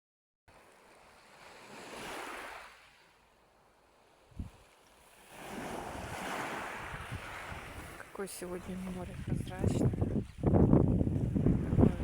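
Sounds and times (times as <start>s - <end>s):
gentle sea waves washing in: 0.5s - 12.0s.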